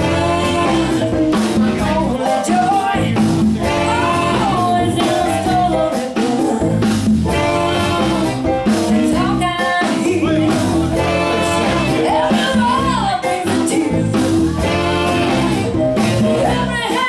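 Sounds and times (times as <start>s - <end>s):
drums with steady beat: 0.0s - 17.0s
electric guitar: 0.0s - 17.0s
keyboards: 0.0s - 17.0s
woman singing: 0.0s - 17.0s.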